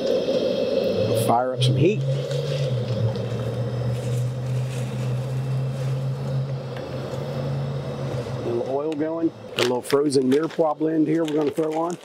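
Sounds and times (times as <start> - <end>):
propane burner humming and hissing: 0.0 - 12.0.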